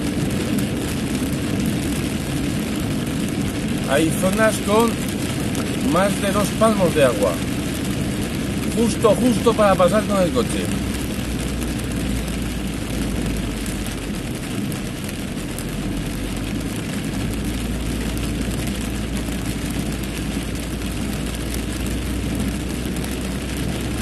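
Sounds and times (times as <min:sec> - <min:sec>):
low engine rumble: 0:00.0 - 0:24.0
rain hitting car body: 0:00.0 - 0:24.0.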